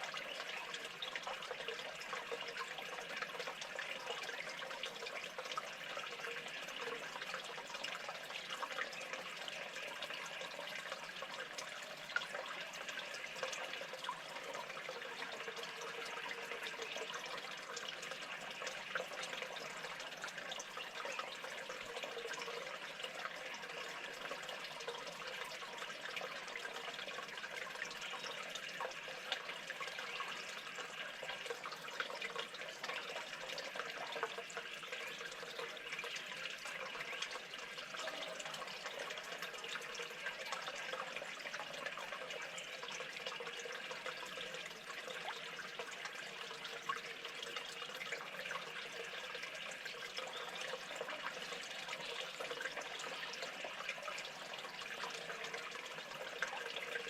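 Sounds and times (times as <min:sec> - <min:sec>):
running water trickling: 0:00.0 - 0:57.0.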